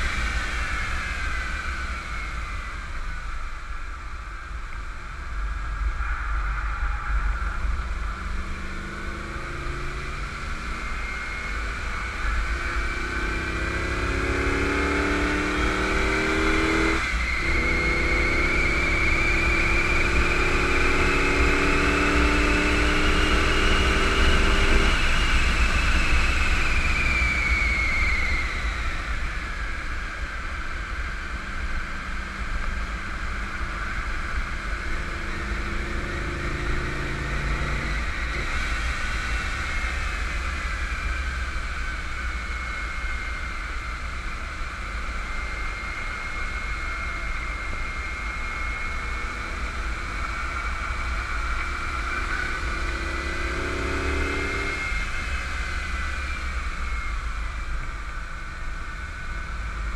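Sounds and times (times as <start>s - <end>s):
high whine: 0.0s - 59.9s
car engine revving: 5.6s - 29.2s, 30.5s - 56.8s.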